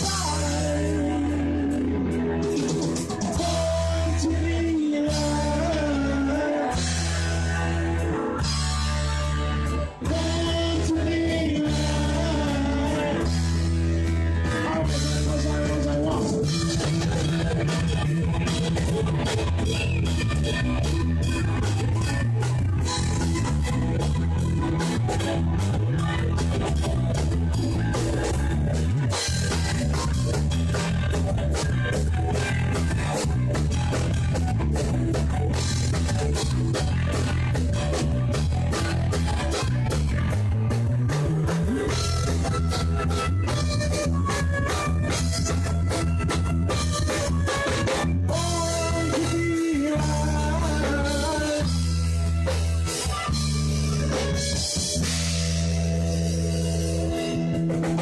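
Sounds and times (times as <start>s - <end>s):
bass guitar: 0.0s - 58.0s
drum kit steady beat: 0.0s - 58.0s
electric guitars: 0.0s - 58.0s.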